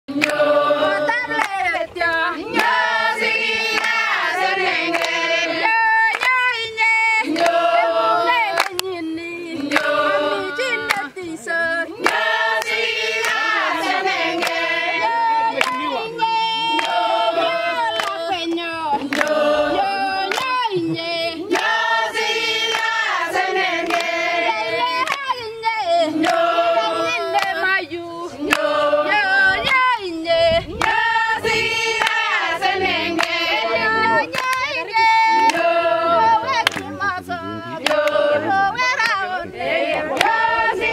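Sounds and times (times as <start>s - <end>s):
group of people singing: 0.1s - 40.9s
rhythmic hand claps: 0.1s - 40.9s.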